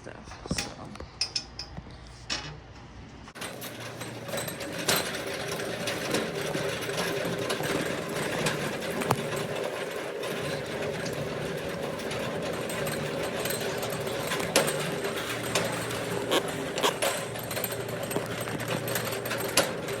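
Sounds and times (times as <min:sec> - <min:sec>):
continuous mechanical rattle: 0:00.2 - 0:20.0.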